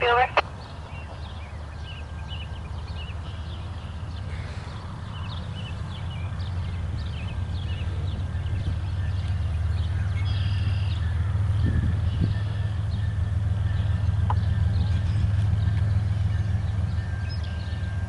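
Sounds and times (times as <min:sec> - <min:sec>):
birds chirping: 0:00.0 - 0:18.0
train engine rumble: 0:00.0 - 0:18.0.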